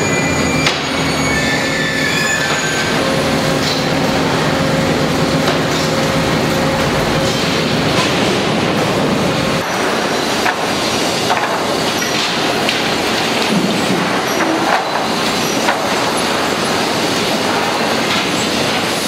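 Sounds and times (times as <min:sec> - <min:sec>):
sawmill machinery din: 0:00.0 - 0:19.0.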